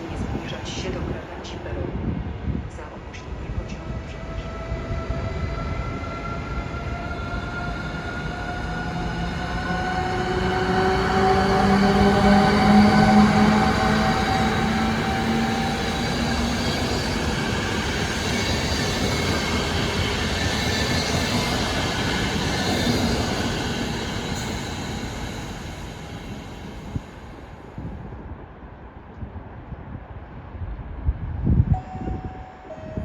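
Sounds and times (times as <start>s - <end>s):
train wheels rumbling: 0.0s - 27.9s.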